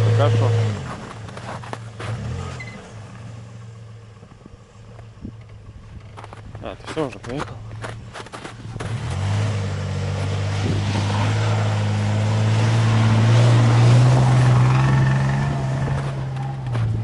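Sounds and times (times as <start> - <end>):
suv engine pulling under load: 0.0 - 17.0
tyre and road noise: 0.0 - 17.0.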